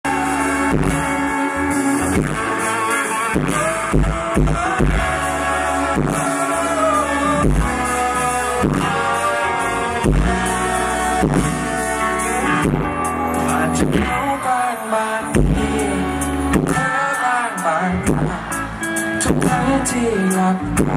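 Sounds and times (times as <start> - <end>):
electric bass: 0.0 - 14.6, 15.2 - 17.1, 17.7 - 20.9
electric guitar: 0.0 - 20.9
man singing: 0.0 - 20.9.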